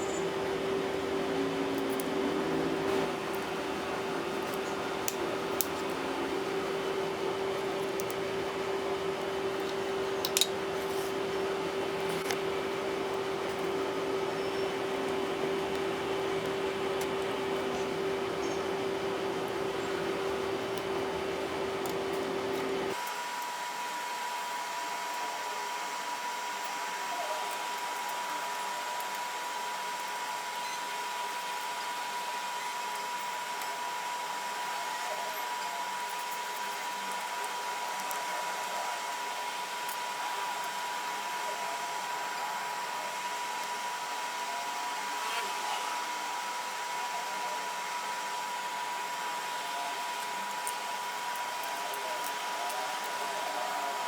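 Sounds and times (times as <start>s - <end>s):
electric motor and fan whining: 0.0s - 54.0s.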